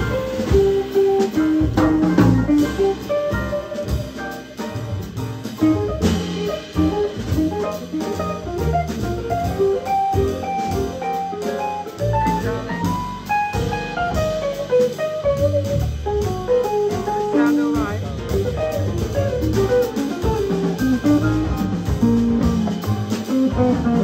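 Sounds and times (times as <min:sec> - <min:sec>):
drum kit with cymbals: 0:00.0 - 0:24.0
upright double bass: 0:00.0 - 0:24.0.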